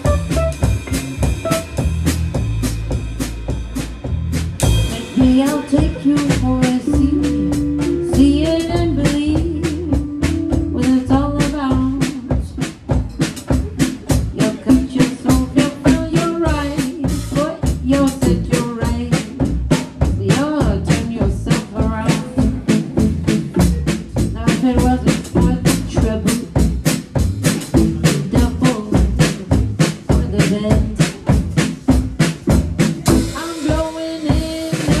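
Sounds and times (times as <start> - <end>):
low bass notes: 0.0 - 12.0, 12.9 - 33.4
drum and cymbal beat: 0.0 - 35.0.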